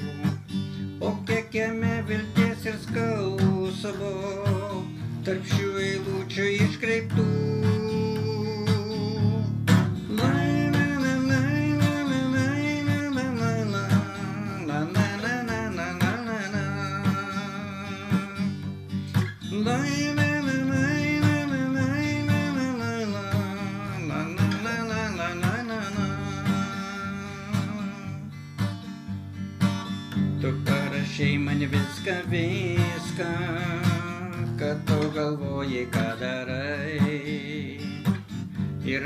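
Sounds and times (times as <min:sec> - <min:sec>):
man singing wordless melody: 0:00.0 - 0:28.8, 0:30.2 - 0:39.0
acoustic guitar strumming: 0:00.0 - 0:39.0.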